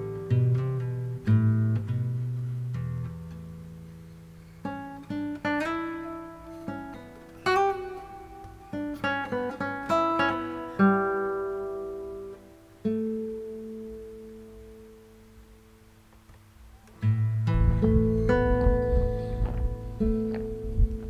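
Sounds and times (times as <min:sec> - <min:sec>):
plucked acoustic guitar: 0:00.0 - 0:21.0.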